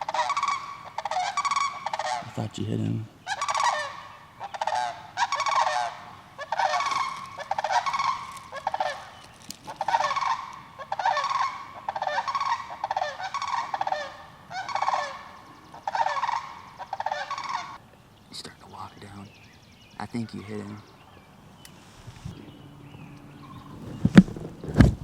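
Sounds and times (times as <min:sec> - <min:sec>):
wild turkeys calling: 0:00.0 - 0:24.8.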